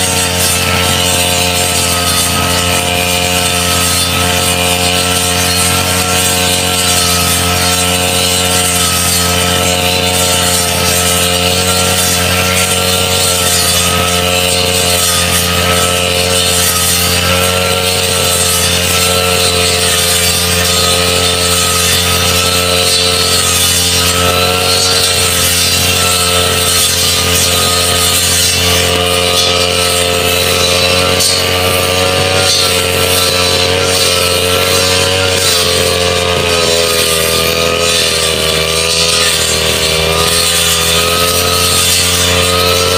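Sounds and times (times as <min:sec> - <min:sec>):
brush cutter running: 0:00.0 - 0:42.9.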